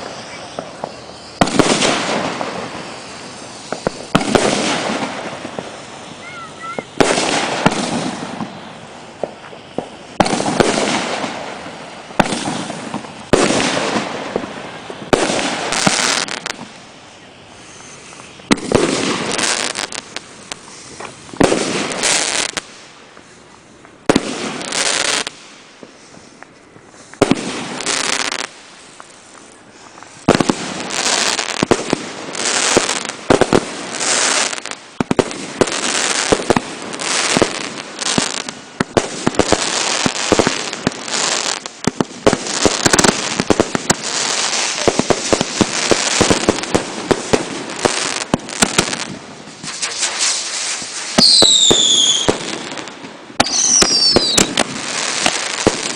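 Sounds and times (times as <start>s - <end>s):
fireworks bangs: 0.0s - 55.9s
fireworks crackle and hiss: 0.0s - 55.9s.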